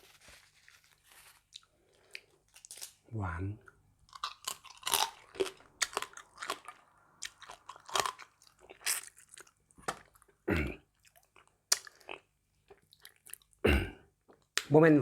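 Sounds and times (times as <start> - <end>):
person chewing and crunching food: 0.4 - 3.0, 3.6 - 14.7.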